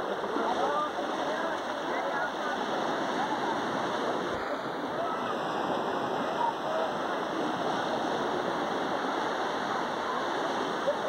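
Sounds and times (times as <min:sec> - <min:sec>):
faint voices: 0:00.0 - 0:11.0
small waves washing onto beach: 0:00.0 - 0:11.0.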